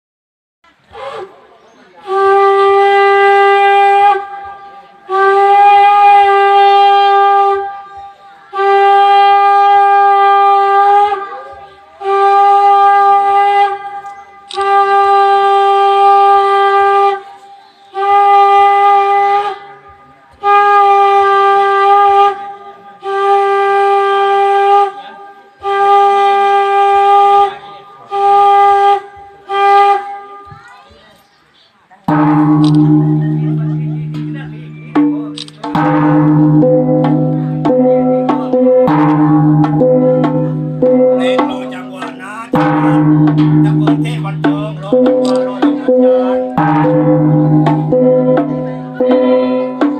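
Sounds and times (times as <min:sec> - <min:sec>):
conch shell trumpet blasts: 0:02.0 - 0:25.0, 0:25.6 - 0:30.5, 0:32.1 - 0:49.8.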